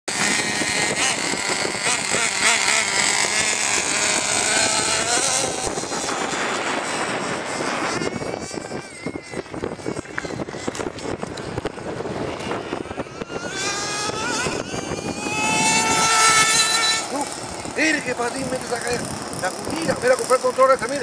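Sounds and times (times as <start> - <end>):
rc car engine buzzing: 0.1 - 21.0.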